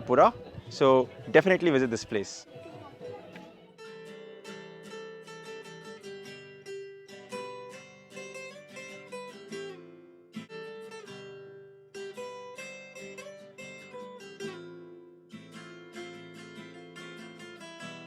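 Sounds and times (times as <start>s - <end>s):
acoustic guitar playing: 0.8s - 18.0s.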